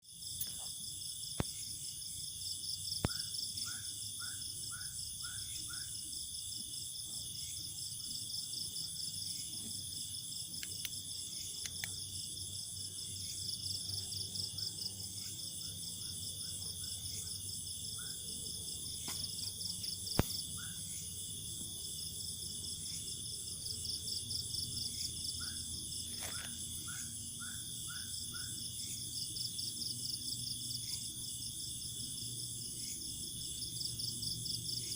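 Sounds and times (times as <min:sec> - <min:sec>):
crickets and insects trilling: 0:00.1 - 0:34.9.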